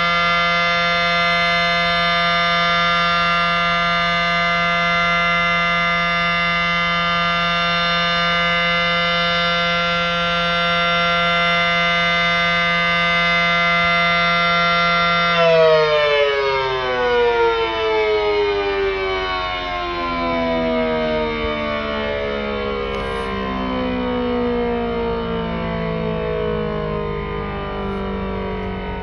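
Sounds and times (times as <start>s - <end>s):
two-note warning siren: 0.0s - 29.0s.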